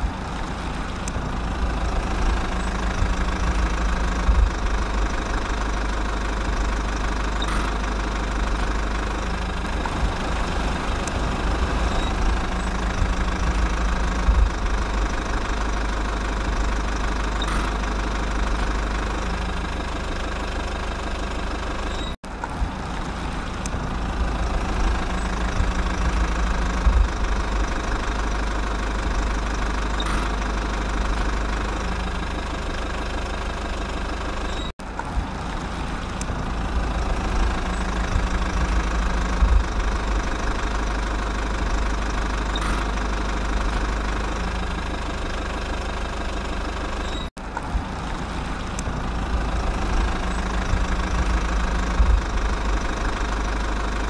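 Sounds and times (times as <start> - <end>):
engine idling with knocking rumble: 0.0 - 54.0.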